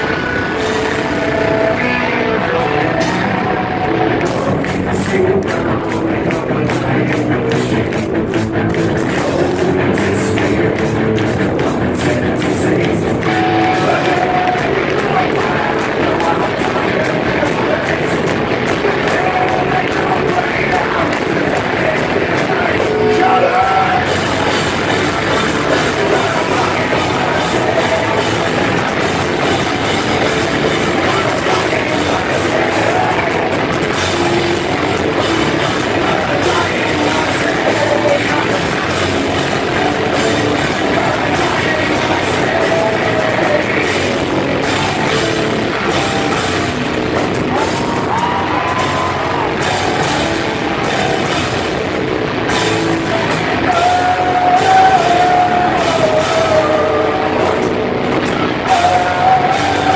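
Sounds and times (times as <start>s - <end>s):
drums: 0.0s - 59.9s
heavy rock band playing live: 0.0s - 59.9s
person singing: 0.0s - 59.9s.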